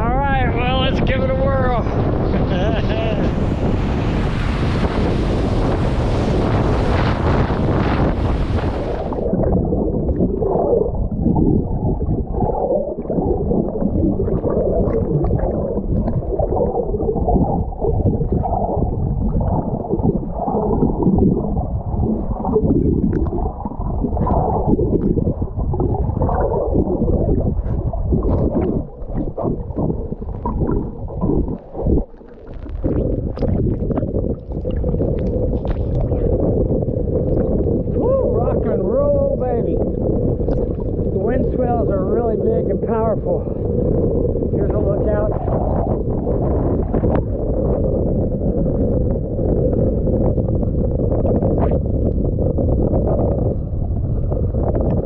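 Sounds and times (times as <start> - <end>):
underwater churning rumble: 0.0 - 55.0
wind and surf on microphone: 0.0 - 55.0.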